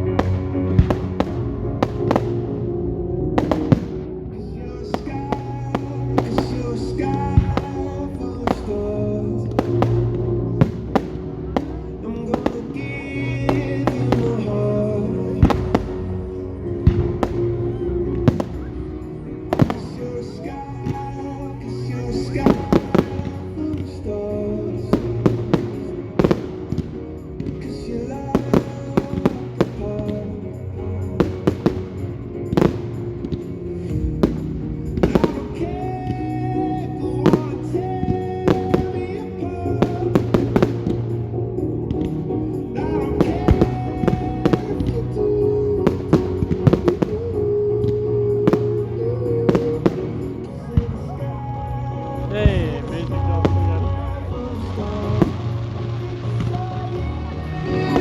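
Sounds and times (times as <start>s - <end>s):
fireworks banging: 0.0s - 58.0s
music with held notes: 0.0s - 58.0s.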